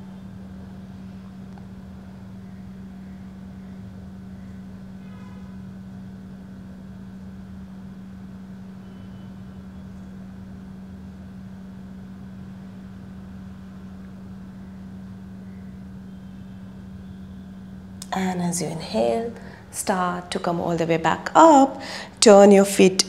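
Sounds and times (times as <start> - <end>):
faint background noise: 0.0 - 23.0
steady low hum: 0.0 - 23.0.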